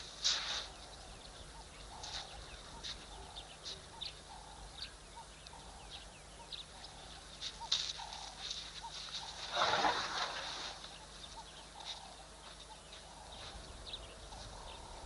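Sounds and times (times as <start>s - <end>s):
wild dogs twittering: 0.5s - 15.0s.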